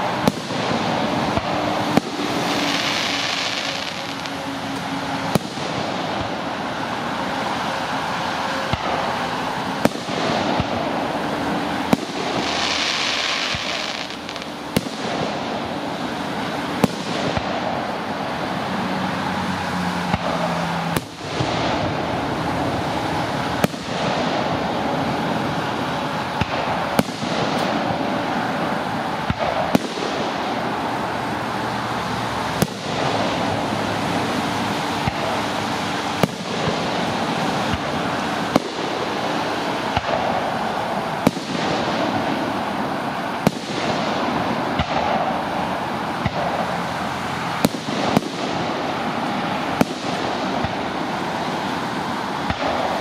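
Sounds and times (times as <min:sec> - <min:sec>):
firework shells bursting: 0:00.0 - 0:18.6, 0:20.1 - 0:31.2, 0:32.4 - 0:53.0
steady rushing noise: 0:00.0 - 0:53.0.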